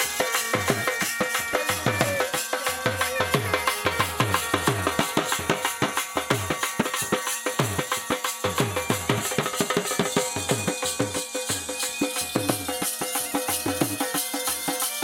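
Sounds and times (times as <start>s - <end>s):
bagpipe drone and melody: 0.0s - 15.0s
drum beaten fast with sticks: 0.0s - 15.0s.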